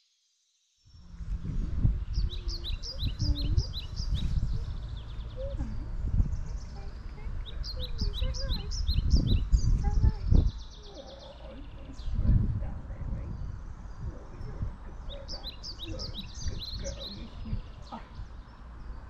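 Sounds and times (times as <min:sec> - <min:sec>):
songbird chirping: 0:00.0 - 0:19.0
uneven low rumble: 0:01.0 - 0:18.4.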